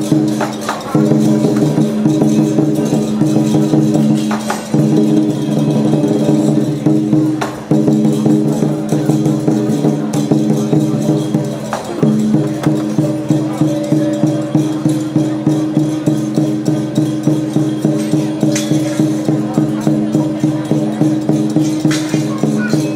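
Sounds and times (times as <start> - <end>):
drum gongs and cymbals music: 0.0 - 22.9.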